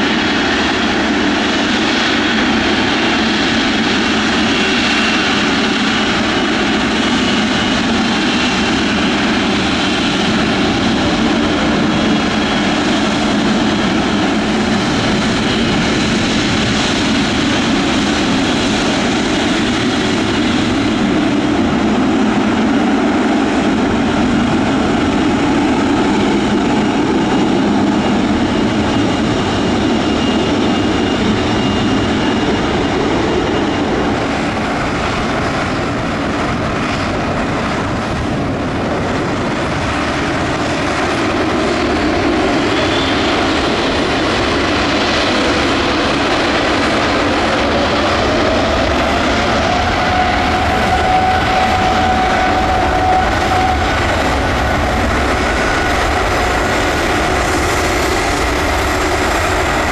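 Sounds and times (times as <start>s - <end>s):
jet engines at taxi power: 0.0s - 59.9s
turboprop engines running: 0.0s - 59.9s.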